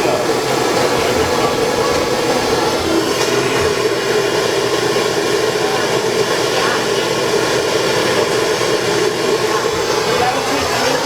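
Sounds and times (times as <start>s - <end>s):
propane torch hissing: 0.0s - 11.0s.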